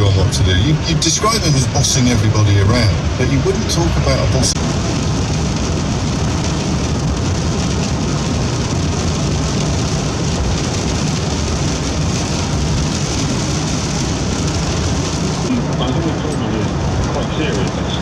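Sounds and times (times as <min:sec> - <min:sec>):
storm wind and rain: 0:00.0 - 0:18.0.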